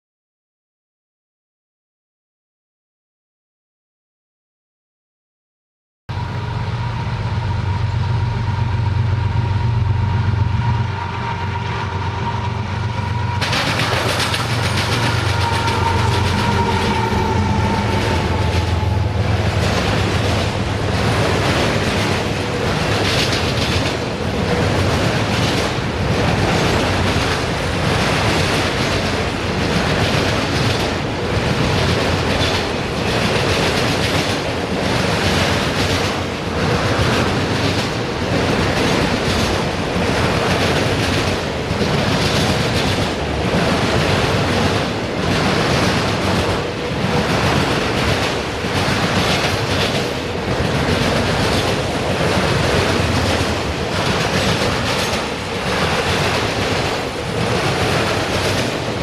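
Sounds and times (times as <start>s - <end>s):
diesel locomotive engines droning: 6.1s - 59.0s
train wheels rumbling over track: 6.1s - 59.0s.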